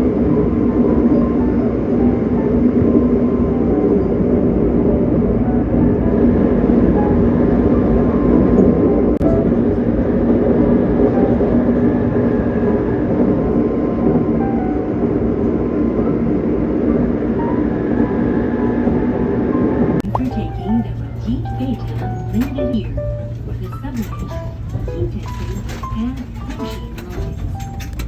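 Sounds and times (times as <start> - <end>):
moving train rumble: 0.0 - 28.0.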